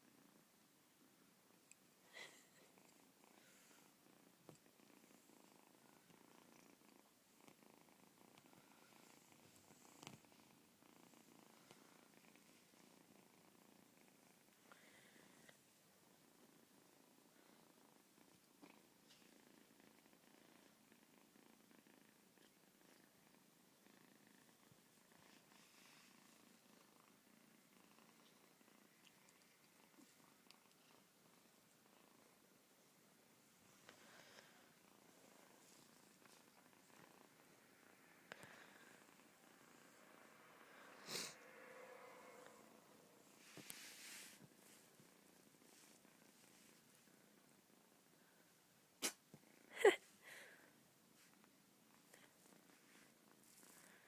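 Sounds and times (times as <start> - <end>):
kitten purring: 0.0 - 54.0.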